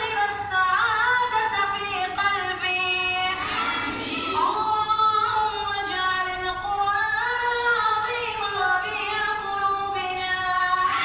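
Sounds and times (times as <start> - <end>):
high voice singing unaccompanied: 0.0 - 11.0.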